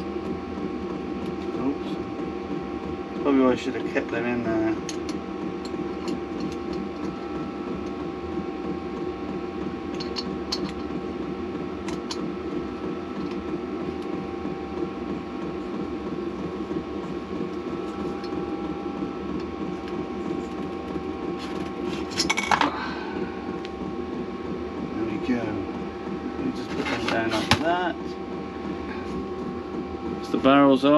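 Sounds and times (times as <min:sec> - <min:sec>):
steady background hum: 0:00.0 - 0:30.9.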